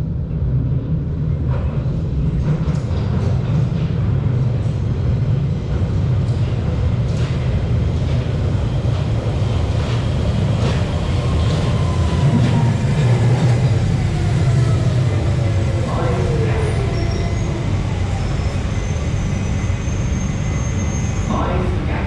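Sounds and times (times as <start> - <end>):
train rumbling in tunnel: 0.0 - 22.0.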